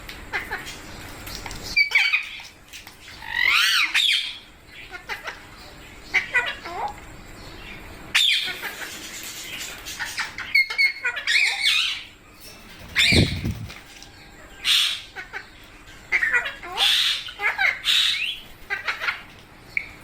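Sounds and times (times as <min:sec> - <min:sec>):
parakeets squawking and chattering: 0:00.3 - 0:20.0.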